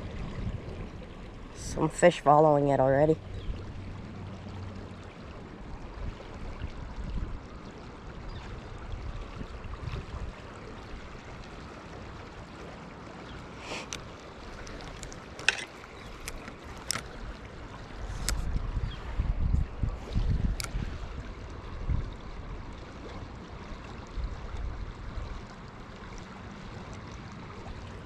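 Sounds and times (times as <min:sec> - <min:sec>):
wind rumbling on microphone: 0:00.0 - 0:11.4, 0:14.4 - 0:28.0
shallow river water running: 0:00.0 - 0:28.0.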